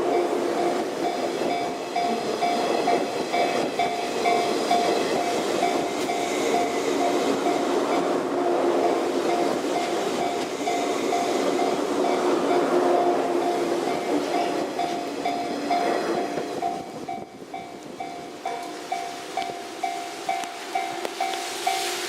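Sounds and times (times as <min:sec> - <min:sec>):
crossing warning bell dinging: 0:00.0 - 0:22.0
electric train running past: 0:00.0 - 0:22.0.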